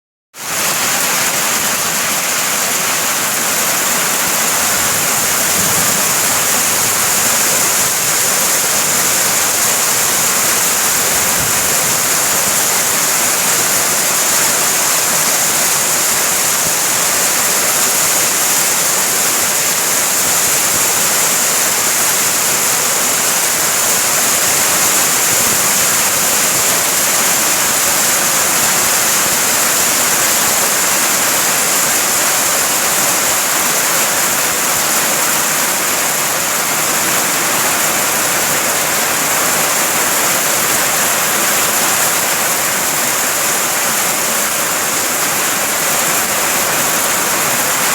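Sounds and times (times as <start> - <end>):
heavy rain falling: 0.4 - 47.9.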